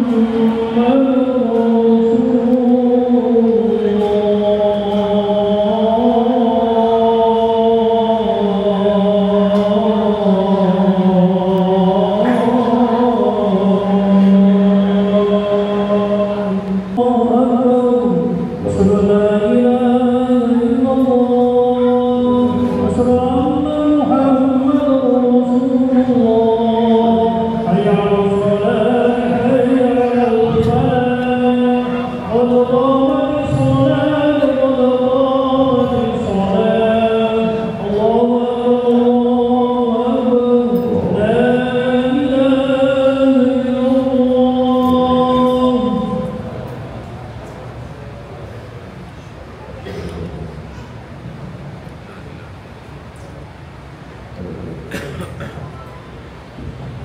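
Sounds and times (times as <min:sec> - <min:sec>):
man chanting: 0:00.0 - 0:47.0.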